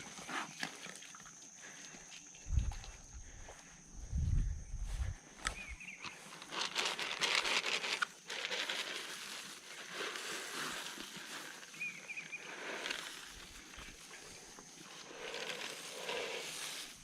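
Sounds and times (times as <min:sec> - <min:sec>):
pigs crunching and rustling feed: 0:00.0 - 0:03.4, 0:05.9 - 0:17.0.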